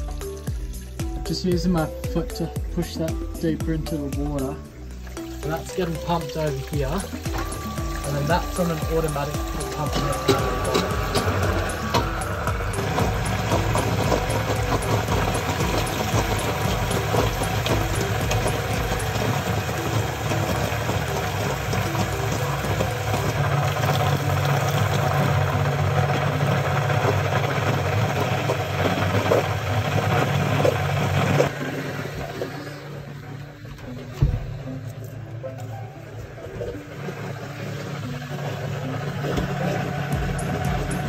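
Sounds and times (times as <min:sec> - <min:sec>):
electric pumps humming and rattling: 0:00.0 - 0:41.0.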